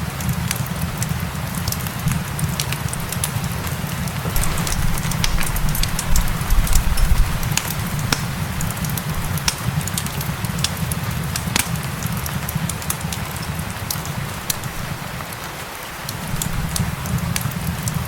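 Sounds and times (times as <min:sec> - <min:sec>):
gentle rain hiss: 0:00.0 - 0:18.0
wood fire crackling and popping: 0:00.2 - 0:14.8.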